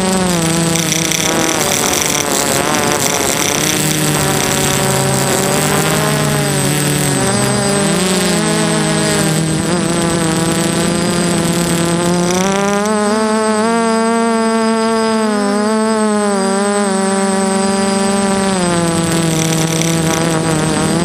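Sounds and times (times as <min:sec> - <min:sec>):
quadcopter motors whining: 0:00.0 - 0:21.0
steady rushing noise: 0:00.0 - 0:21.0.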